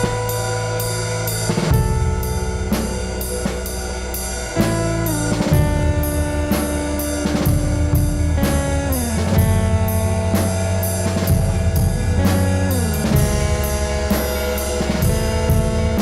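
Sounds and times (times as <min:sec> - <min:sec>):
driving drum beat: 0:00.0 - 0:16.0
sustained sliding guitar notes: 0:00.0 - 0:16.0.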